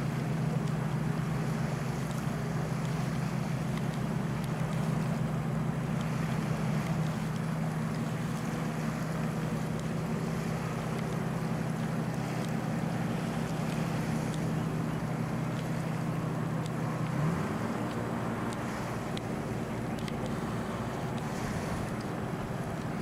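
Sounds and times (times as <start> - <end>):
engine running steadily: 0.0 - 23.0
wind and travel noise: 0.0 - 23.0.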